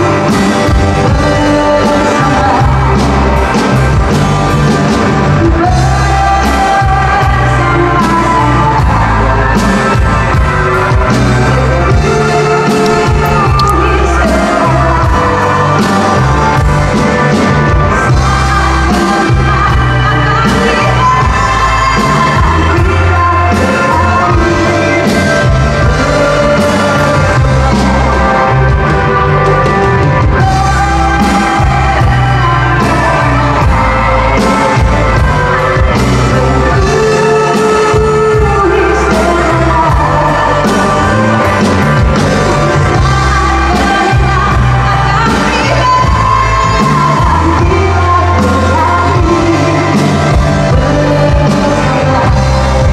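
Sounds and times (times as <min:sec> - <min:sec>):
rock band playing: 0:00.0 - 0:52.9
woman singing: 0:00.0 - 0:52.9.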